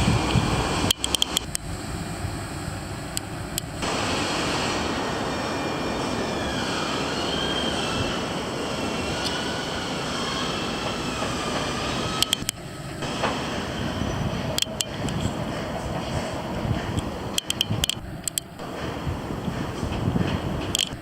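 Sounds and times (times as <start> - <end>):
rail vehicle rolling past: 0.0 - 21.0
wheels squealing: 0.0 - 21.0.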